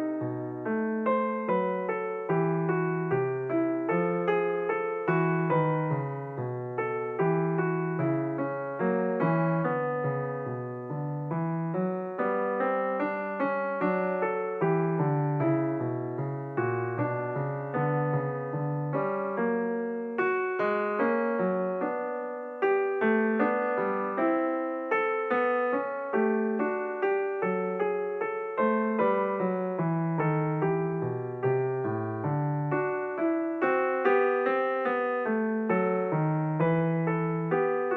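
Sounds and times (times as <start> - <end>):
piano music: 0.0 - 37.9.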